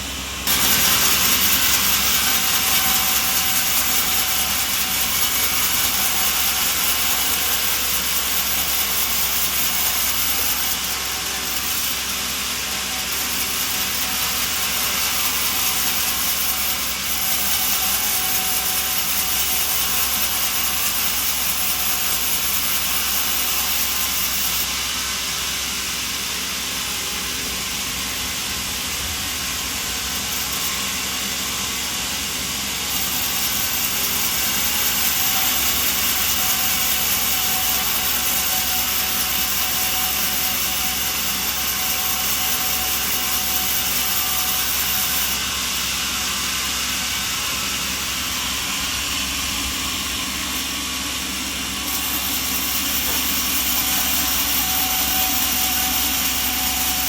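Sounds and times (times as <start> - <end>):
sawmill machinery hissing: 0.0 - 57.0.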